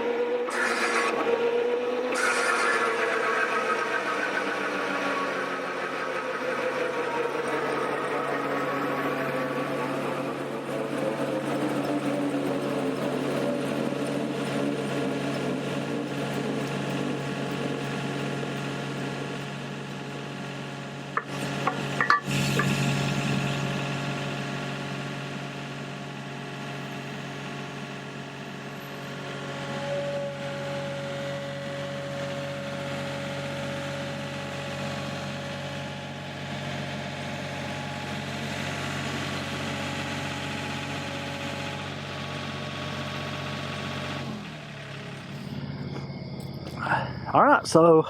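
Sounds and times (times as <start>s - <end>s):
diesel engine running: 0.0s - 48.0s
hydraulic whine: 0.0s - 48.0s.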